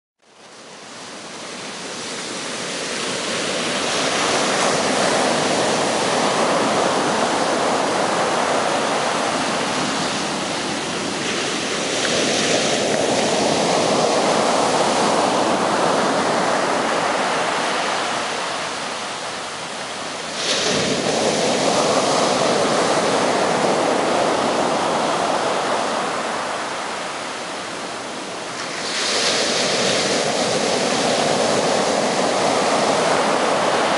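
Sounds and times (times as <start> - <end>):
small waves washing on sand: 0.3 - 33.9
wave crashing: 1.5 - 33.9.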